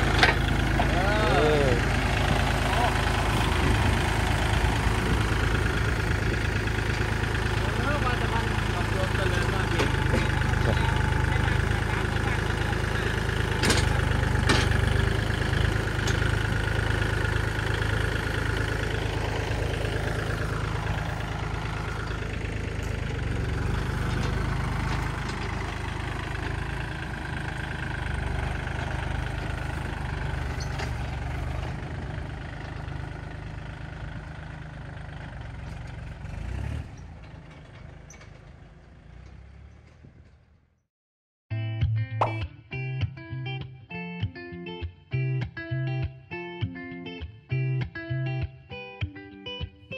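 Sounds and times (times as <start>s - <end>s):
tractor diesel engine running: 0.0s - 40.7s.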